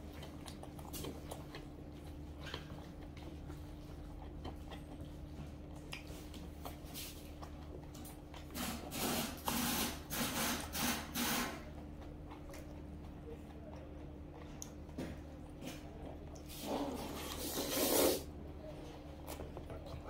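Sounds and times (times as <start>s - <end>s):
quiet chewing: 0.0s - 20.0s.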